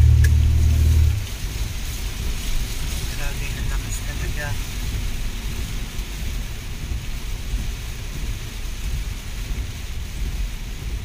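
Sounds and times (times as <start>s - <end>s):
heavy rain on car roof: 0.0s - 11.0s
steady low rumble: 0.0s - 11.0s.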